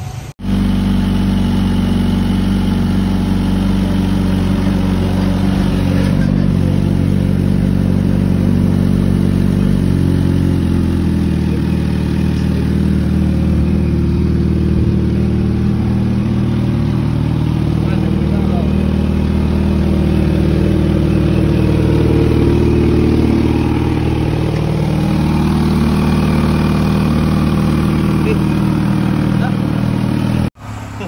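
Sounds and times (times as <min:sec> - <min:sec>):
motorcycle engine idling: 0:00.4 - 0:31.0.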